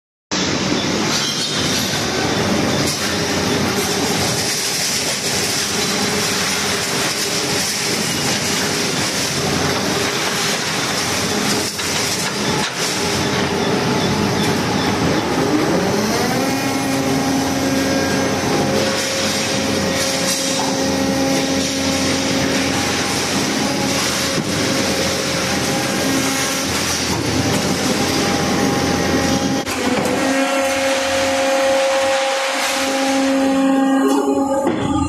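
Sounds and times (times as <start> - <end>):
hydraulic machinery din: 0.4 - 35.0
scrap metal clanking and squealing: 0.4 - 35.0.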